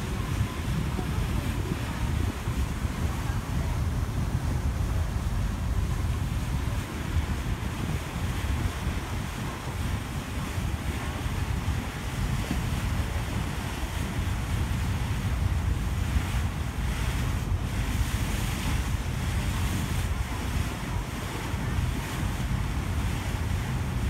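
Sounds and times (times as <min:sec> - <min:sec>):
rushing water: 0:00.0 - 0:24.0
ship engine low rumble: 0:00.0 - 0:24.0
wind buffeting microphone: 0:00.0 - 0:24.0.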